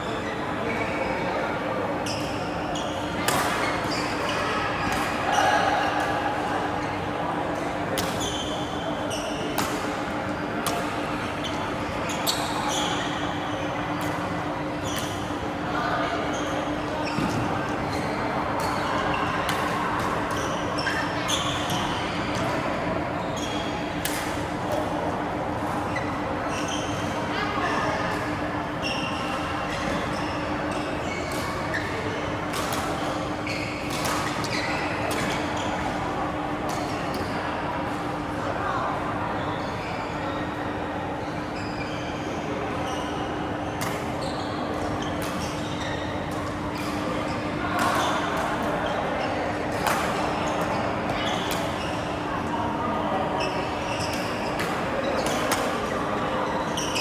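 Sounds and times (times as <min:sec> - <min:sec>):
shoe squeaks on court floor: 0:00.0 - 0:06.2, 0:08.0 - 0:09.9, 0:10.7 - 0:24.8, 0:25.9 - 0:28.2, 0:28.8 - 0:36.0, 0:41.4 - 0:43.1, 0:43.7 - 0:52.2, 0:53.1 - 0:57.0.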